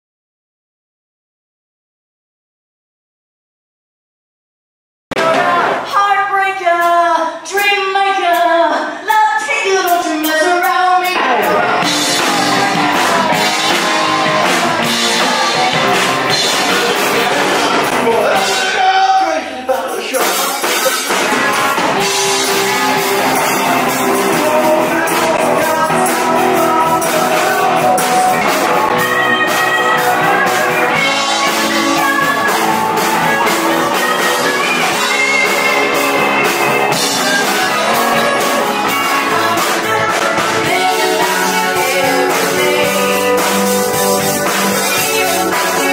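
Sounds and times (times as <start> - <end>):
rock band playing: 5.2 - 6.0, 9.7 - 45.9
woman singing: 5.2 - 18.8, 20.0 - 45.9.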